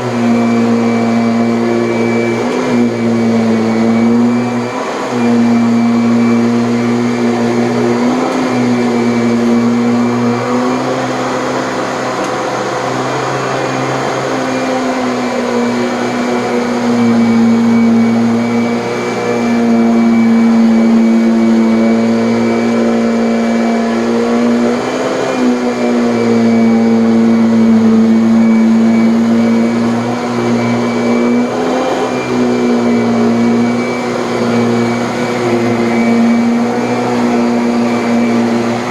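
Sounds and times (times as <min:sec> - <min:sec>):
upright vacuum running: 0:00.0 - 0:38.9.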